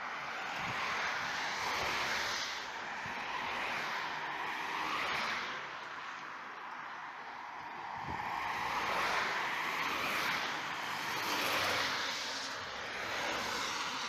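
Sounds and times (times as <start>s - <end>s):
vehicles driving past: 0.0s - 14.0s.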